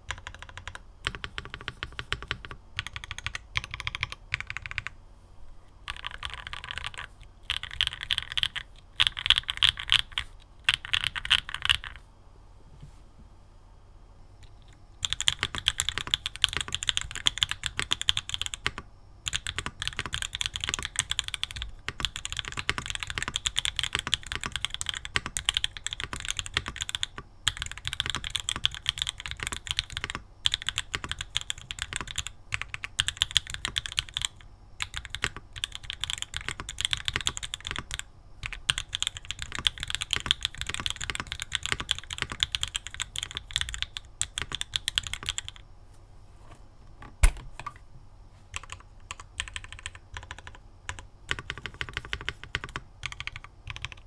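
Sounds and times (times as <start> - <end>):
typing on mechanical keyboard: 0.0 - 4.9, 5.8 - 12.0, 14.6 - 45.6, 48.5 - 54.0.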